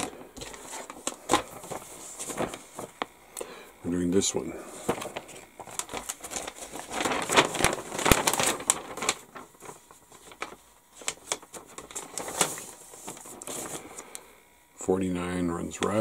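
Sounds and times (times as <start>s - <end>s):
paper rustling: 0.0s - 3.2s, 4.2s - 14.1s.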